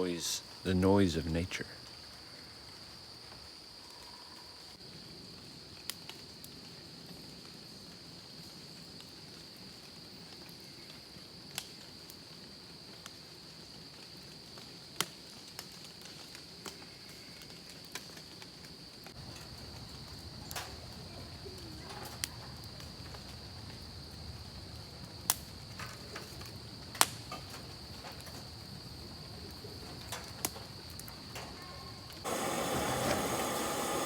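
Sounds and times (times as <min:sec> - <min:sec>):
crickets chirping: 0:00.0 - 0:15.6, 0:16.5 - 0:34.0.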